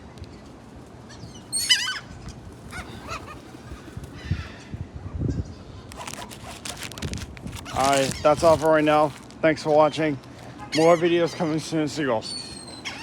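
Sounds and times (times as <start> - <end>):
seagulls calling: 1.0 - 4.8, 5.8 - 13.0.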